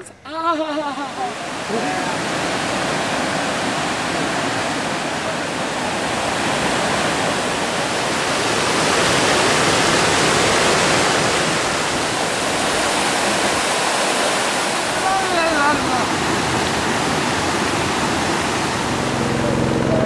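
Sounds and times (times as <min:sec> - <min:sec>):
waterfall rushing: 0:01.0 - 0:20.0.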